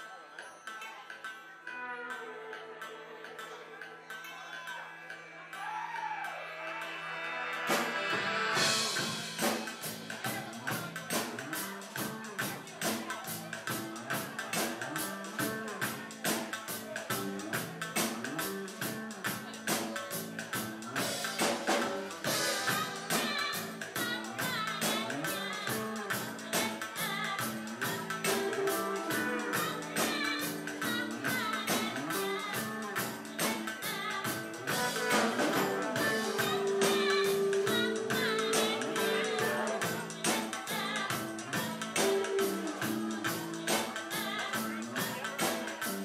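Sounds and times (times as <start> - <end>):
live band music: 7.0 - 46.0
electric bass guitar: 7.6 - 46.0
fast drum beat: 7.7 - 46.0.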